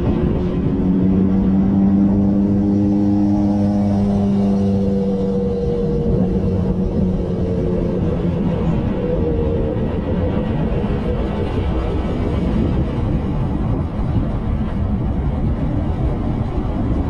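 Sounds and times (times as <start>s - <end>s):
low road noise rumble: 0.0s - 17.0s.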